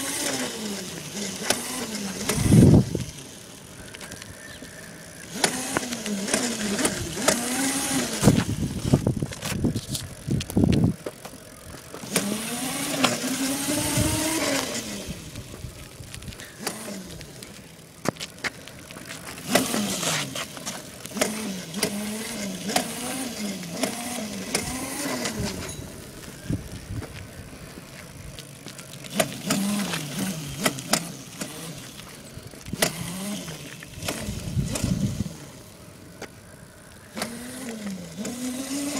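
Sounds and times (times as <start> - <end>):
electric scooter motor whining: 0.0 - 38.9.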